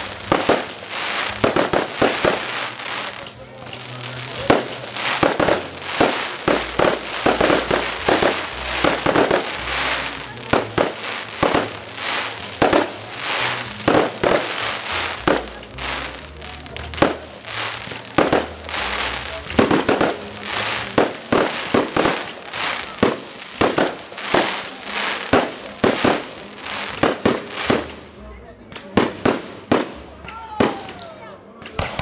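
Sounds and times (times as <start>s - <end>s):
continuous hiss: 0.0s - 32.0s.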